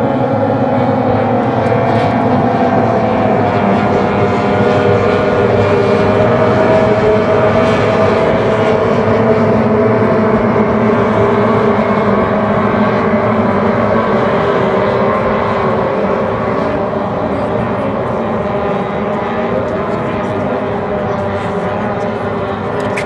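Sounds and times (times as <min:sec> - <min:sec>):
race boat engines: 0:00.0 - 0:23.0.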